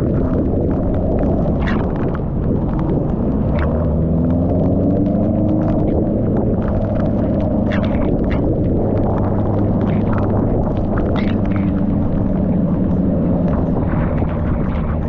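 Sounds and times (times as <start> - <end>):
motorcycle engine running: 0.0 - 15.0
short crackles: 0.0 - 15.0
wind rumble on microphone: 0.0 - 15.0.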